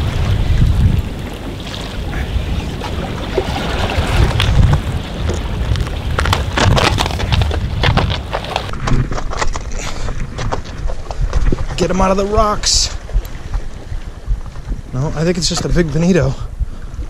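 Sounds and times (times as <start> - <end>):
sea: 0.0 - 17.0
wind buffeting microphone: 0.0 - 17.0.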